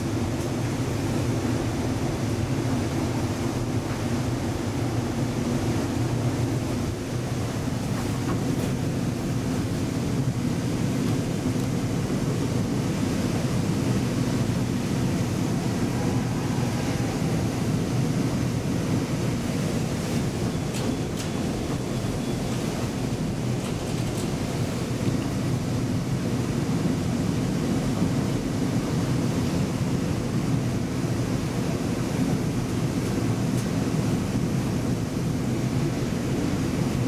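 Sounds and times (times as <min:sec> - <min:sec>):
elevator car rumbling: 0:00.0 - 0:37.0.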